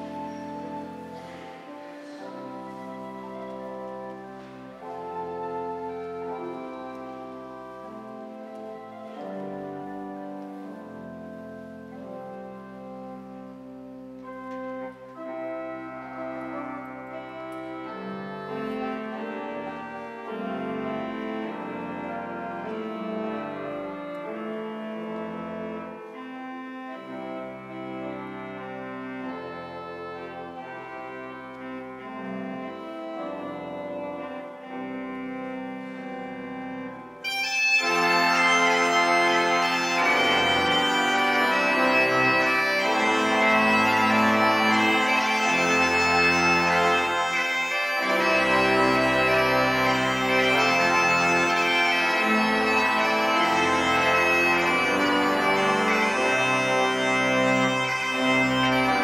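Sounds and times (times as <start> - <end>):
pipe organ playing chords: 0.0 - 59.0.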